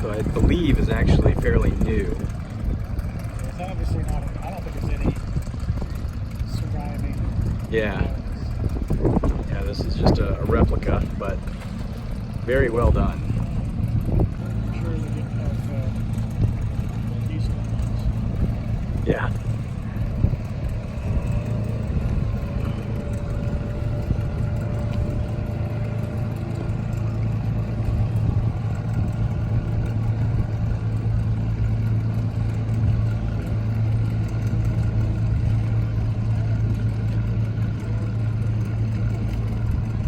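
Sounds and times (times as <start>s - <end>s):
distant boat engines: 0.0s - 40.0s
motorboat engine droning: 0.0s - 40.0s.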